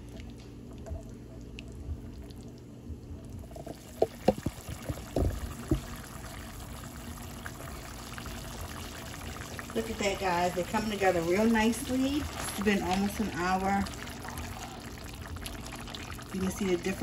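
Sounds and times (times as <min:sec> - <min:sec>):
pot bubbling: 0:00.0 - 0:17.0.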